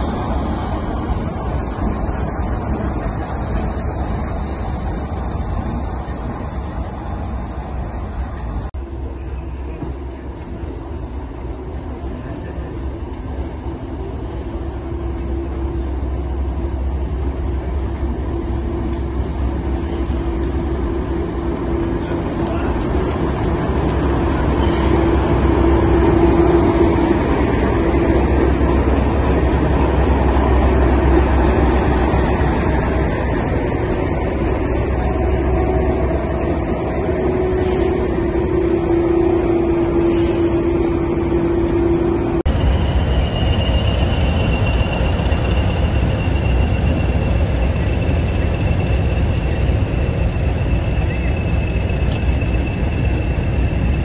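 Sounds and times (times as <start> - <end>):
diesel locomotive engine rumbling: 0.0 - 54.0.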